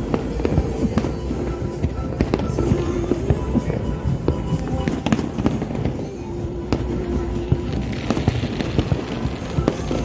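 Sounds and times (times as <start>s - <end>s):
fireworks bangs and crackles: 0.0s - 10.0s
rumble of distant fireworks bursts: 0.0s - 10.0s.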